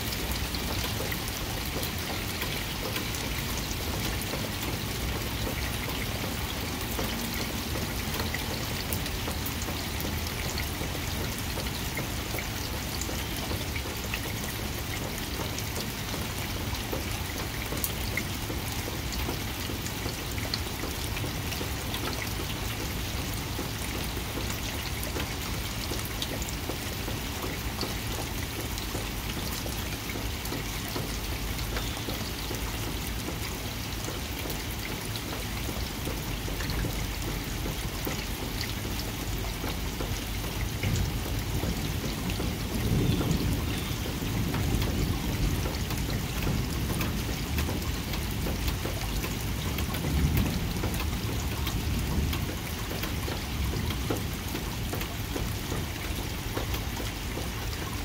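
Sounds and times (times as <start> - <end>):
rain on plants and paving: 0.0 - 58.0.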